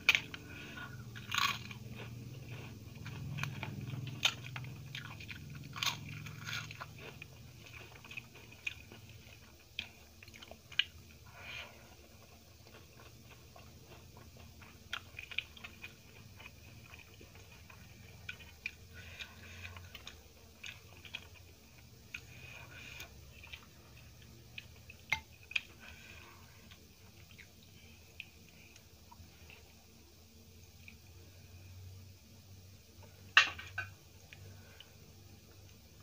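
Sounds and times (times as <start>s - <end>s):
person chewing food: 0.0s - 29.8s.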